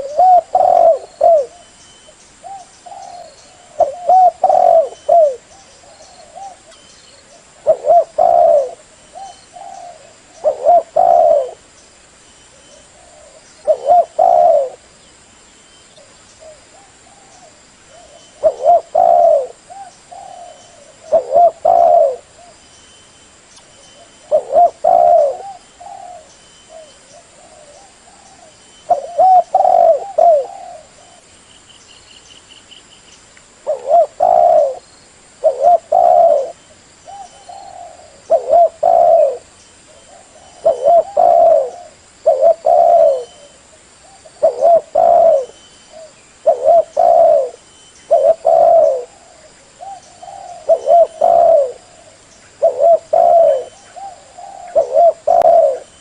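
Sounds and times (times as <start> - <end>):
dove cooing: 0.0 - 1.8, 2.4 - 11.7, 12.5 - 14.9, 16.0 - 22.6, 23.8 - 31.3, 33.6 - 34.8, 35.4 - 56.0.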